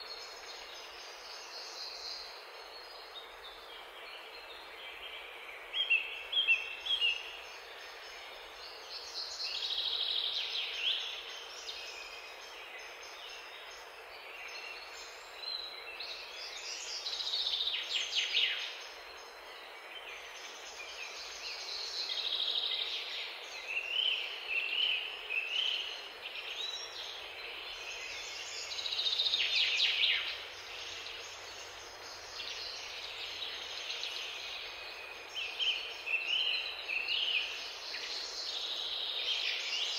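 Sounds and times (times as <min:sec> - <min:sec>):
small songbirds singing: 0:00.0 - 0:39.9
steady background hiss: 0:00.0 - 0:39.9.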